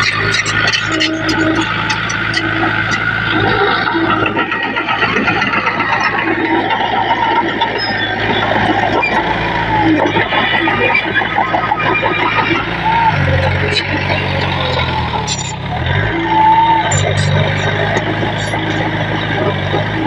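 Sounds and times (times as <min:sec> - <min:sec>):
heavy machinery diesel engines: 0:00.0 - 0:20.0.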